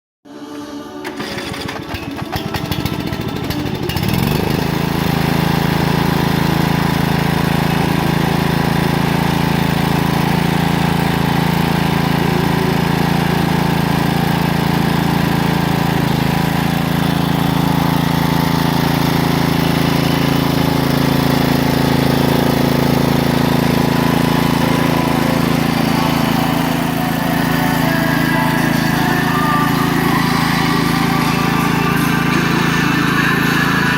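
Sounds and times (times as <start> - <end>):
lawn mower engine running: 1.0 - 33.9.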